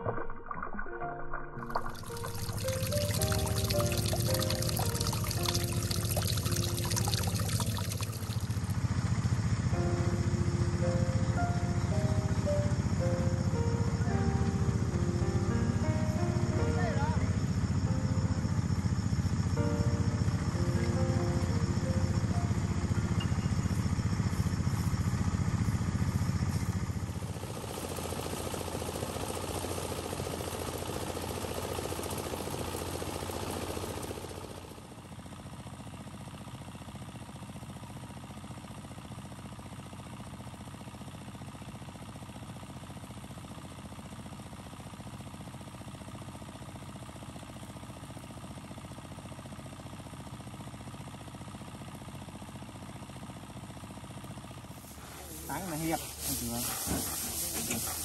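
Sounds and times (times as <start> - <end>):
small diesel engine running: 2.4 - 58.0.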